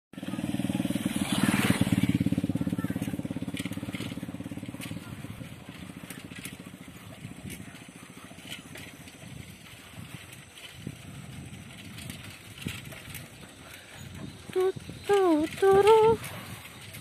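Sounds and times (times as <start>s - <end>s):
bicycle rattling rumble: 0.2s - 17.0s.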